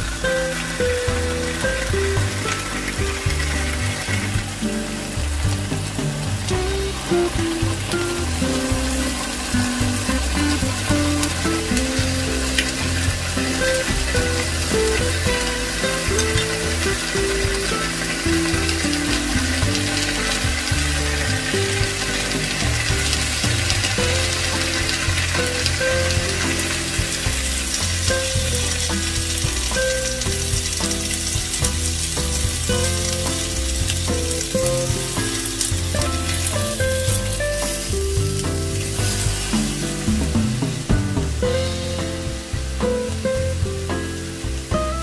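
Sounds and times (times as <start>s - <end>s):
background music: 0.0s - 45.0s
pork sizzling in oil: 0.0s - 45.0s.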